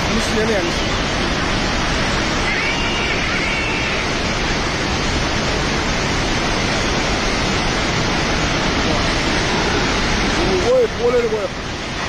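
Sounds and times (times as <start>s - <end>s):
rushing flood water: 0.0s - 12.0s.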